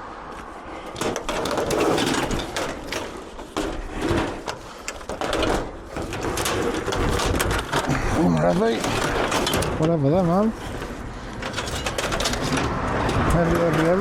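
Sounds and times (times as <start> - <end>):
scrap appliances knocking and rattling: 0.7 - 14.0.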